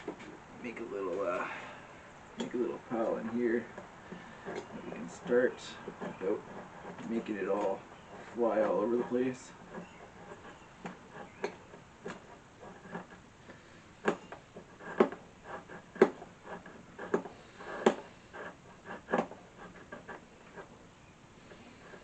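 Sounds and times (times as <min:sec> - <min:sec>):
knife scraping wood shavings: 0:02.4 - 0:20.8.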